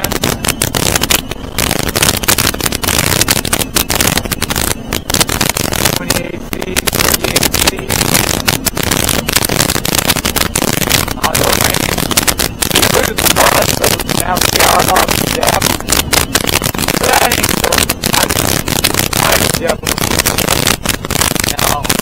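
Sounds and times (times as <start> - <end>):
hull thumps and crackling: 0.0 - 22.0.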